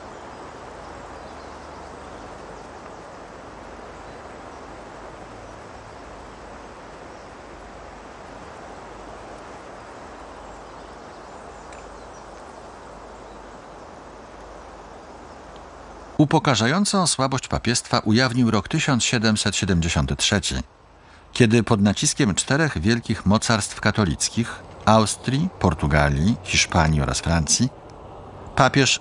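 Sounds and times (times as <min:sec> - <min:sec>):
outdoor ambience: 0:00.0 - 0:29.0.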